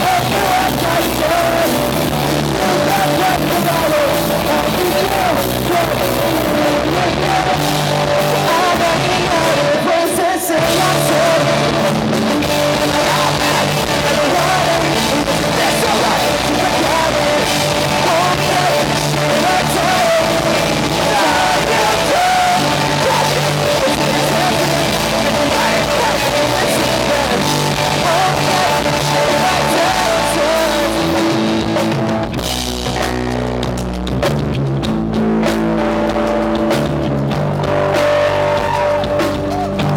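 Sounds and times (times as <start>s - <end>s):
person singing: 0.0s - 32.1s, 37.9s - 39.9s
pop-punk band playing live: 0.0s - 39.9s.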